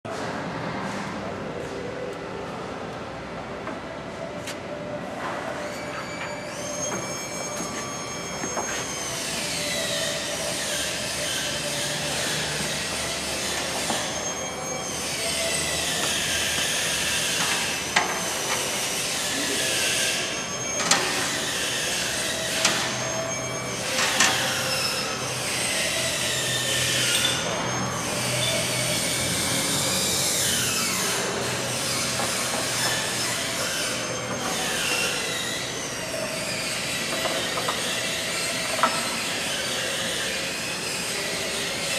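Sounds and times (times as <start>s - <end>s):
metal on metal squealing: 5.0s - 41.9s.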